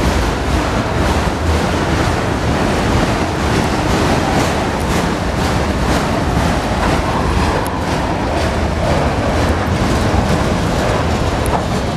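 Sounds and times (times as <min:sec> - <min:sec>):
steel wheels rumbling on rail: 0:00.0 - 0:11.9
wheels clicking over rail joints: 0:00.0 - 0:11.9.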